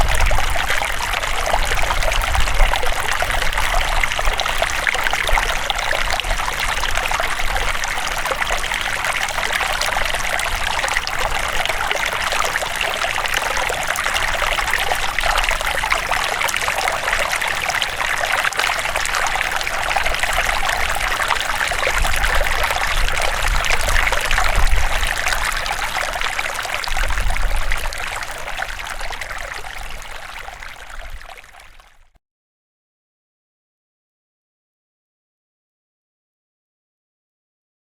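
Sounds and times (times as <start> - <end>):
river water flowing: 0.0 - 31.8.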